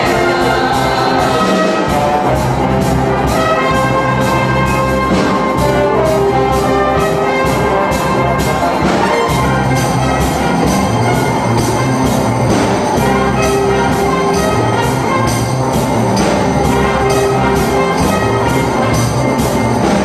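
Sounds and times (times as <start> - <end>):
orchestral music with brass: 0.0 - 20.0.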